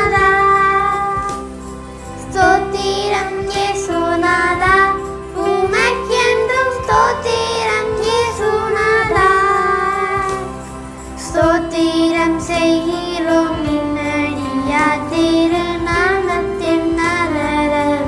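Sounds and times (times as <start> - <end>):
person singing: 0.0 - 1.5, 2.2 - 18.0
instrumental backing music: 0.0 - 18.0.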